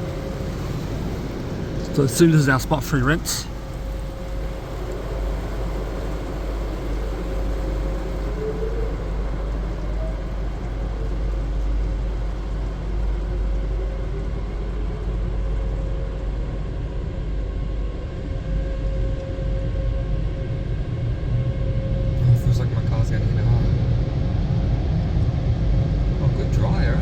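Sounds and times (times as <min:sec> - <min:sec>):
car wash rinse and dryer rumble: 0:00.0 - 0:27.0
faint steady hum: 0:00.0 - 0:27.0.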